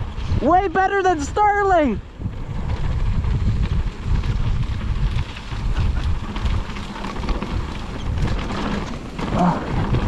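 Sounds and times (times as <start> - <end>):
bike rattling: 0.0 - 10.0
tyres crackling over dirt: 0.0 - 10.0
wind buffeting microphone: 0.0 - 10.0.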